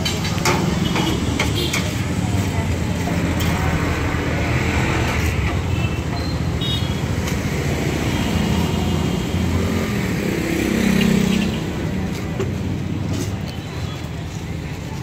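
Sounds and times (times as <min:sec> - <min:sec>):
roadside traffic noise: 0:00.0 - 0:15.0.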